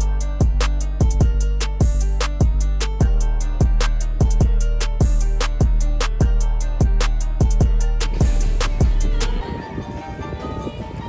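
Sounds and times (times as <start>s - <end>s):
kick drum beat: 0.0s - 9.5s
held bass line: 0.0s - 10.0s
guitar: 0.0s - 11.0s.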